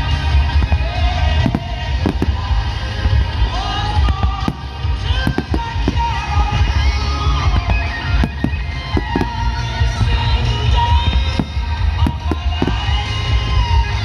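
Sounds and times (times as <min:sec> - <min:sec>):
fireworks bangs and booms: 0:00.0 - 0:14.0
loud music with melody: 0:00.0 - 0:14.0.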